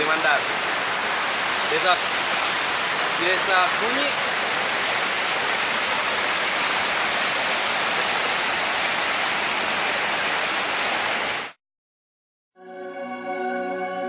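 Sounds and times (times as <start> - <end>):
waterfall splashing: 0.0 - 11.6.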